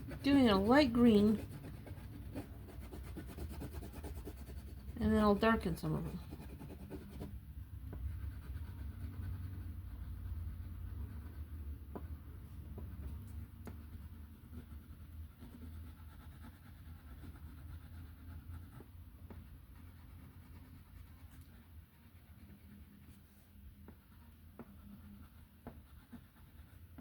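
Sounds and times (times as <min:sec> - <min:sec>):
coloring tip rubbing on paper: 0:00.0 - 0:27.0.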